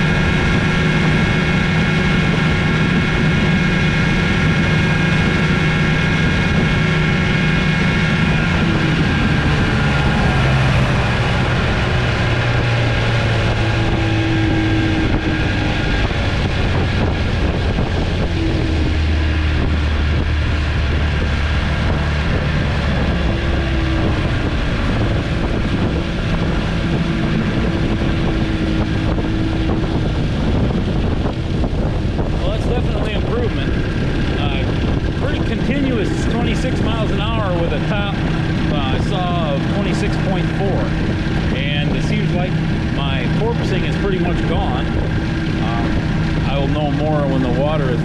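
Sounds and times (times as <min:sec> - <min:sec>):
outboard motor running: 0:00.0 - 0:48.0
wind noise on microphone: 0:00.0 - 0:48.0.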